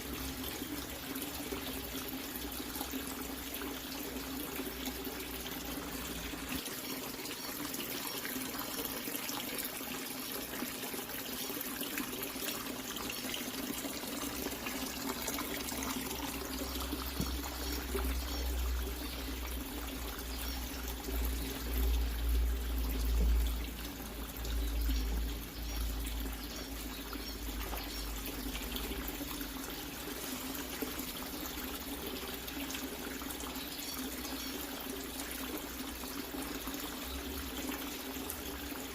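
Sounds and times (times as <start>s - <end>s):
water trickling into standing water: 0.0s - 38.9s.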